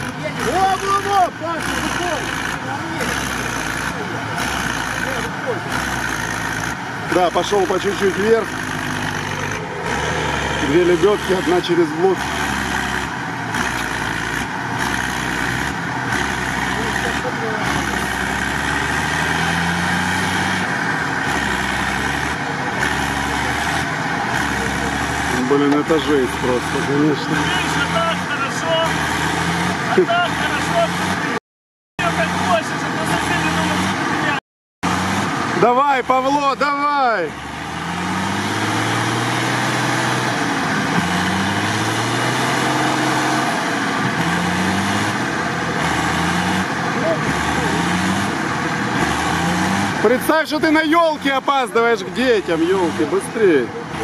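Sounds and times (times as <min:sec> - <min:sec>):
truck engine running: 0:00.0 - 0:31.4, 0:32.0 - 0:54.0.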